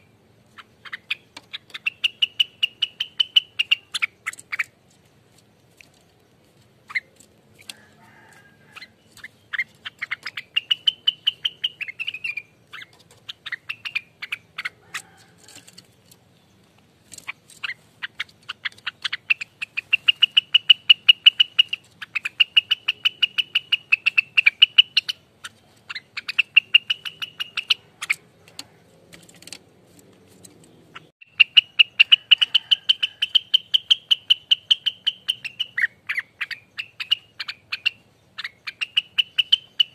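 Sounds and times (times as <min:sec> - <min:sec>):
bird rattling trill: 0:00.5 - 0:16.3, 0:17.0 - 0:39.9.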